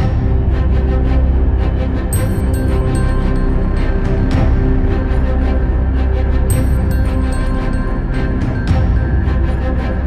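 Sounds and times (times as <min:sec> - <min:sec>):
background music with regular beat: 0:00.0 - 0:10.0.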